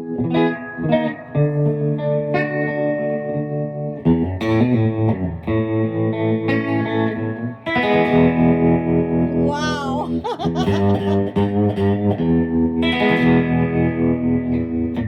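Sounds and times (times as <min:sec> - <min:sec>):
electric guitar chords ringing: 0:00.0 - 0:09.4, 0:10.9 - 0:15.0.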